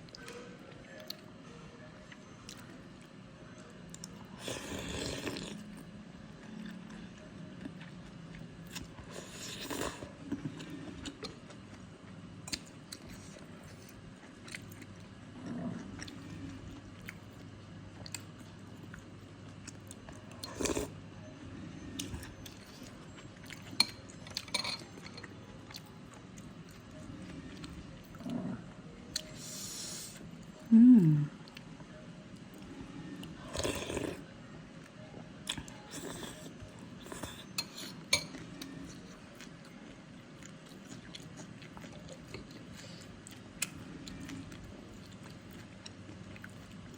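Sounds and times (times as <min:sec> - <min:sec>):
chewing with moist clicks: 0:00.0 - 0:01.3, 0:02.0 - 0:20.9, 0:21.9 - 0:29.4, 0:31.4 - 0:34.1, 0:34.8 - 0:46.9.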